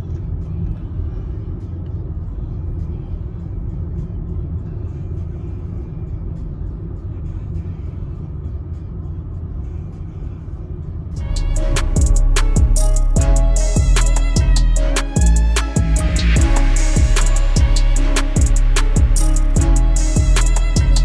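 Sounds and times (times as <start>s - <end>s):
road and tyre rumble in car cabin: 0.0s - 21.0s.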